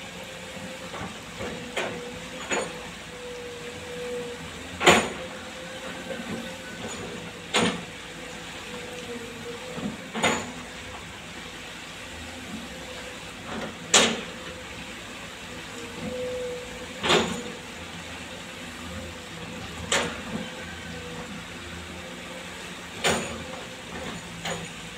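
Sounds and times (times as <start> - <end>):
excavator engine humming: 0.0 - 24.9.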